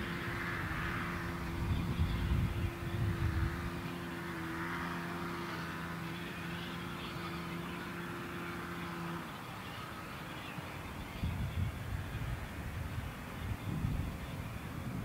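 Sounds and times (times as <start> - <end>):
distant train drone: 0.0 - 15.0.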